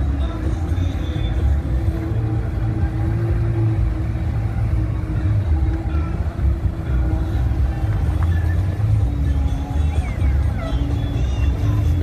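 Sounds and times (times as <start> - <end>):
motorboat engines rumbling: 0.0 - 12.0.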